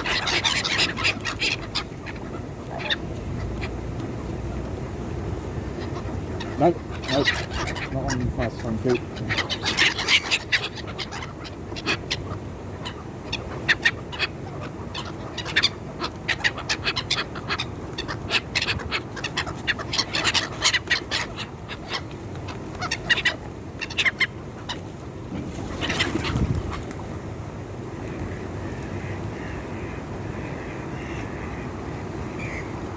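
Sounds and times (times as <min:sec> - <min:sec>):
gulls squawking: 0:00.0 - 0:32.9.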